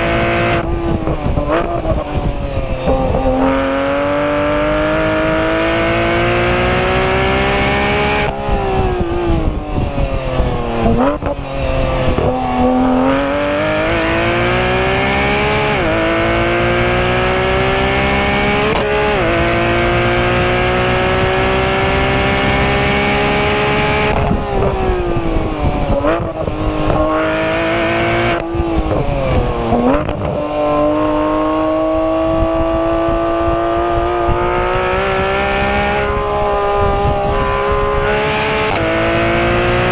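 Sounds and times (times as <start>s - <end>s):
engine blips on downshifts: 0.0s - 39.9s
sports car engine at full throttle: 0.0s - 39.9s.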